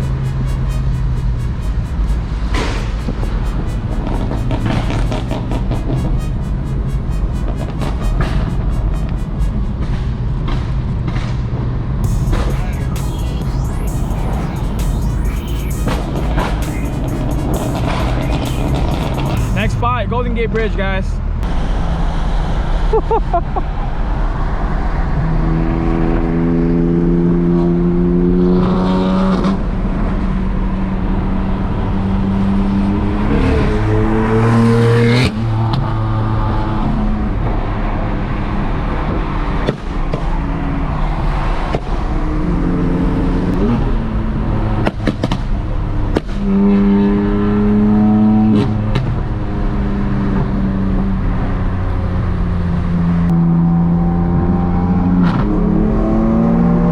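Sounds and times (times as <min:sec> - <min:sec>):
car engine revving: 0:00.0 - 0:10.6, 0:12.0 - 0:19.8, 0:24.6 - 0:56.9.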